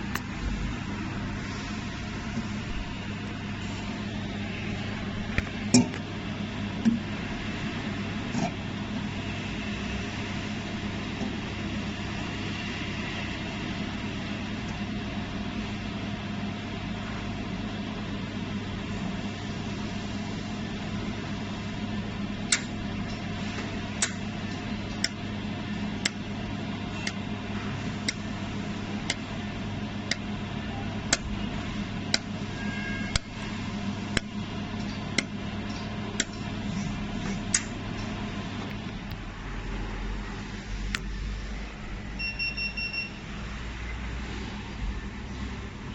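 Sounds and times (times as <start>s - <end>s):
cooling fan hum: 0.0s - 45.9s.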